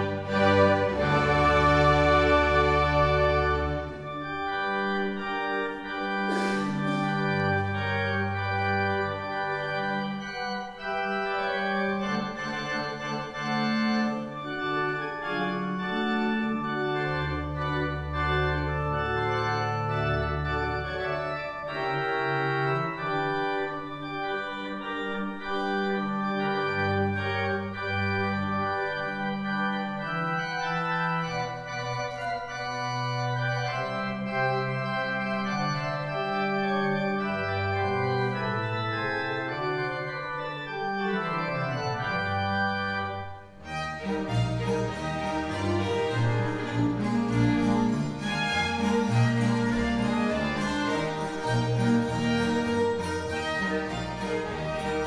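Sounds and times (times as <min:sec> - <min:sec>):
church organ chords: 0:00.0 - 0:55.0.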